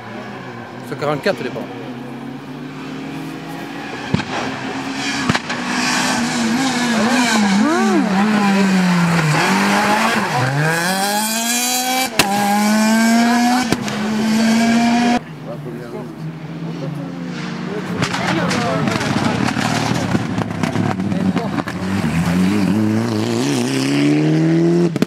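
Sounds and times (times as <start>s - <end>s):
rally car engine at full throttle: 0.0s - 25.0s.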